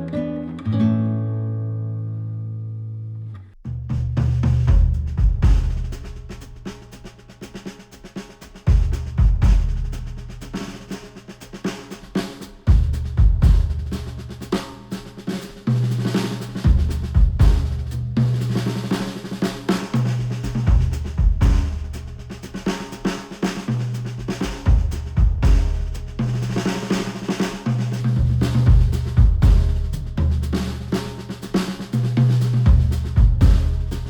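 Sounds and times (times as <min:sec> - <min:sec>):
drum kit: 0:03.7 - 0:34.0.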